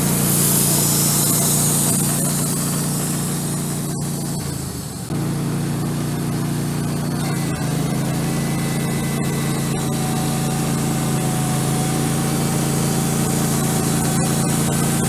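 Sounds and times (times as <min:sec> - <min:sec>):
faint high whine: 0:00.0 - 0:15.0
sawmill engine running: 0:00.0 - 0:15.0.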